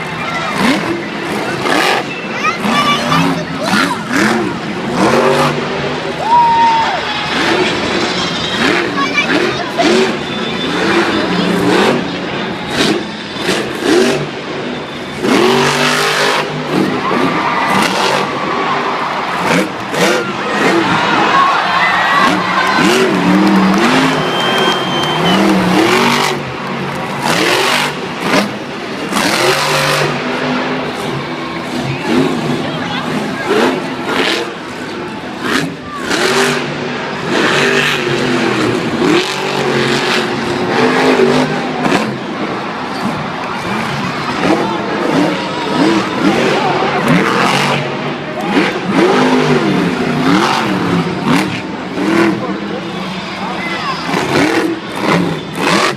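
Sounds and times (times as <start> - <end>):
monster truck engine revving: 0.0 - 55.9.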